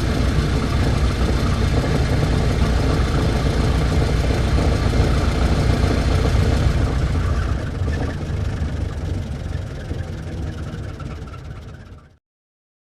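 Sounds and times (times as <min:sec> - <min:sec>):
old car engine running: 0:00.0 - 0:12.2.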